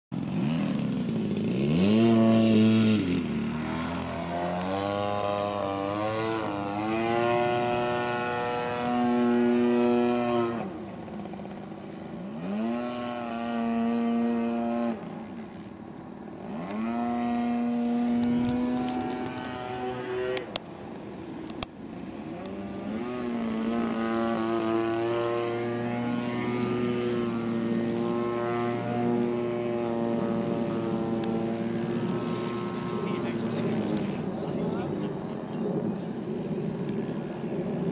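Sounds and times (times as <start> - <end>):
model plane engine revving: 0.2 - 20.6, 21.6 - 37.9.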